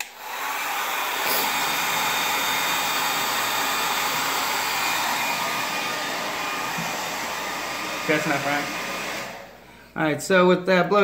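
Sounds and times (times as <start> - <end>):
hair dryer blowing: 0.0 - 9.7.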